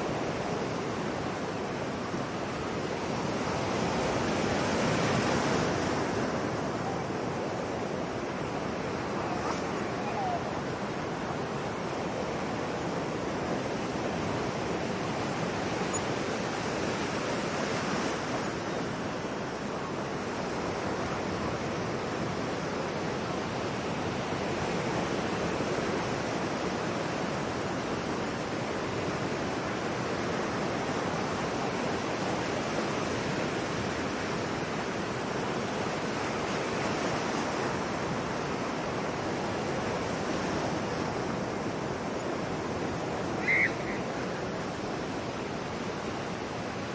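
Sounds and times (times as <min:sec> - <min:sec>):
ocean surf washing in: 0:00.0 - 0:46.9.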